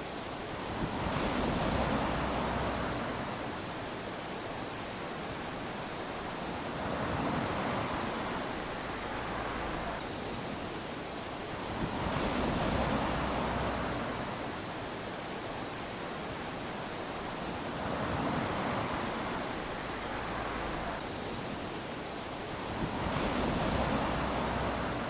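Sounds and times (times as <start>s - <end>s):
small waves lapping on beach: 0.0s - 25.0s.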